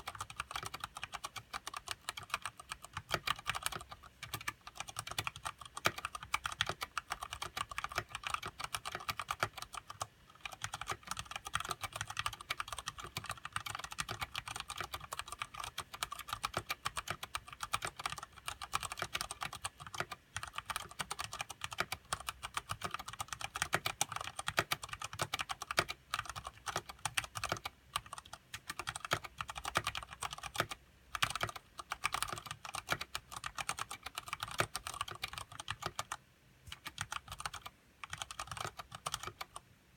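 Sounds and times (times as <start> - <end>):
fast typing on mechanical keyboard: 0.0 - 39.6.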